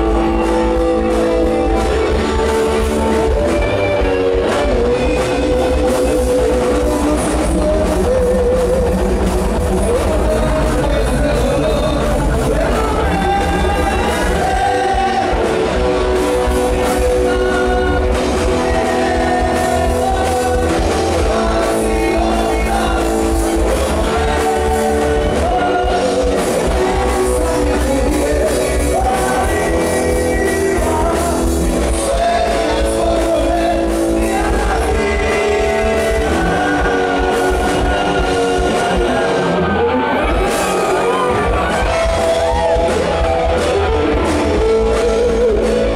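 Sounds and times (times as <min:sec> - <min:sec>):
electric guitars: 0:00.0 - 0:45.9
man singing into microphone: 0:00.0 - 0:45.9.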